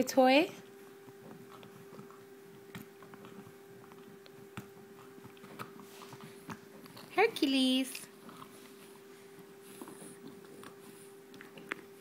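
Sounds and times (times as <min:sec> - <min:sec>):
puppy chewing rope toy: 0:00.6 - 0:12.0.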